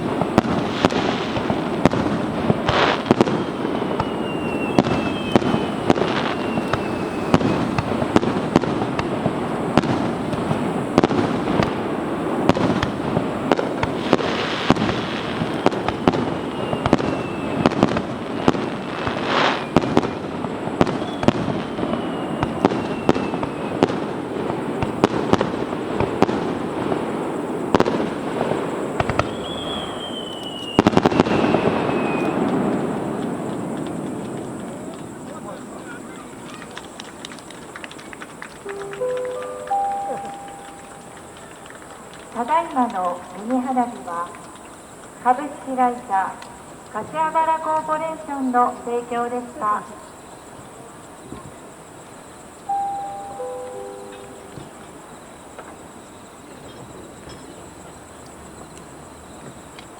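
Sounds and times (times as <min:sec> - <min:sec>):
falling firework whistles: 0:00.0 - 0:59.9
fireworks bangs and crackling: 0:00.0 - 0:59.9.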